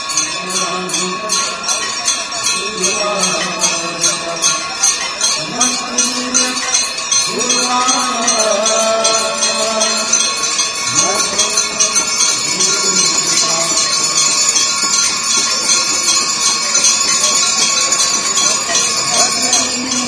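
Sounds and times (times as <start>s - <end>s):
ritual bells ringing rapidly: 0.0s - 20.0s
voices: 0.0s - 20.0s.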